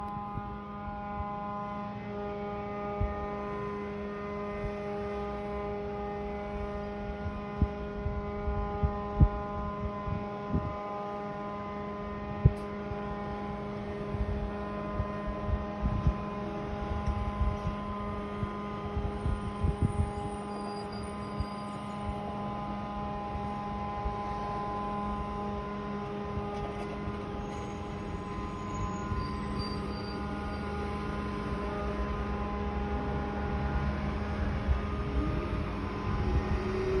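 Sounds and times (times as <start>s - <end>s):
steady droning hum: 0.0s - 37.0s.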